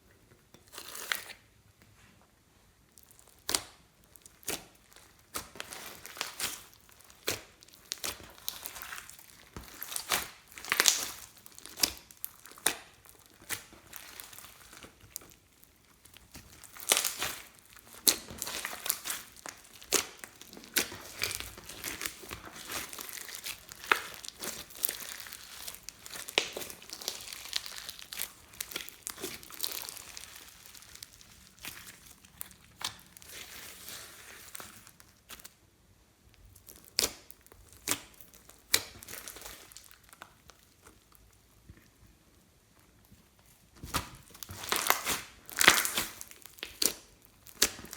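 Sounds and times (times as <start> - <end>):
slime crackling and popping: 3.0 - 35.6, 36.3 - 41.5, 43.8 - 47.9.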